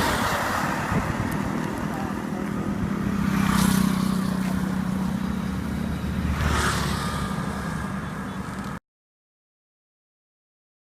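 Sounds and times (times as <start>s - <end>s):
motorcycle engine rumbling: 0.0s - 8.8s.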